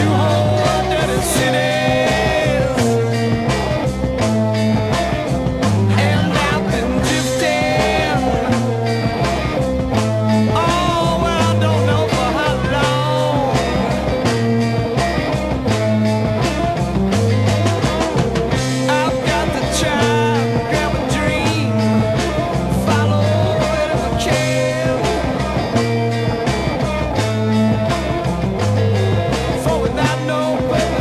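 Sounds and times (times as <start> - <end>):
psychedelic rock instrumental: 0.0 - 31.0.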